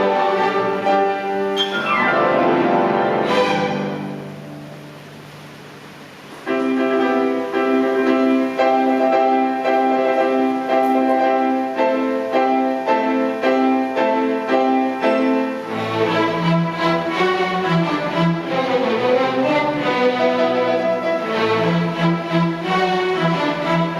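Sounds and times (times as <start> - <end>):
piano chords: 0.0 - 23.9
strings: 0.0 - 23.9.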